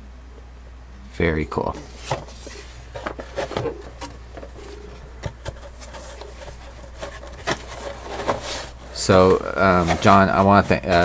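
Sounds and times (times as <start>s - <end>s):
steady low hum: 0.0s - 11.0s
cardboard rustling and scraping: 1.7s - 11.0s.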